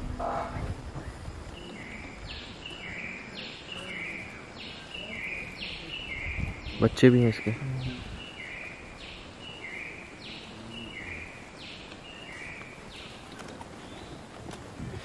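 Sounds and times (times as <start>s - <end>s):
forest background hiss: 0.0s - 15.0s
bird calling: 0.1s - 14.5s.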